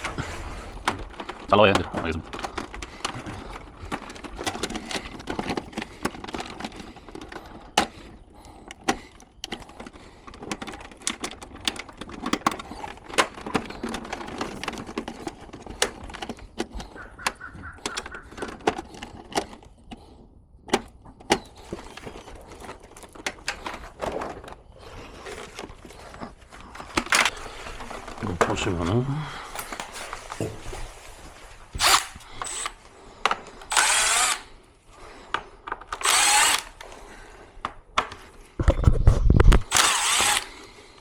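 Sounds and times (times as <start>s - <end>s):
plastic and metal parts clattering: 0.0s - 41.0s.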